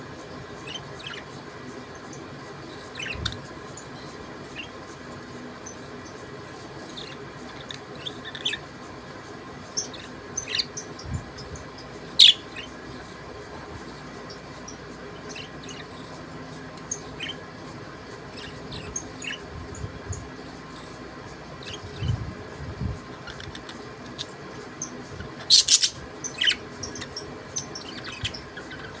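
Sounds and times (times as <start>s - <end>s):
budgerigars chirping: 0.6s - 4.9s, 5.6s - 8.7s, 9.6s - 22.2s, 23.1s - 29.0s.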